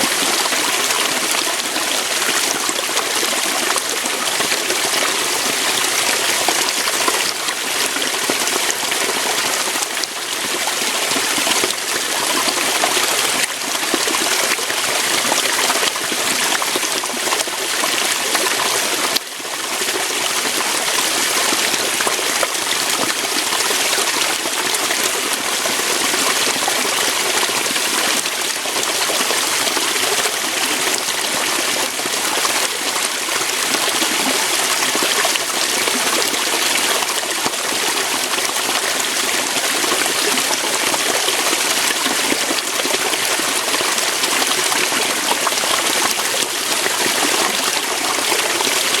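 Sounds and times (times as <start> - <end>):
water rushing over rocks: 0.0 - 49.0.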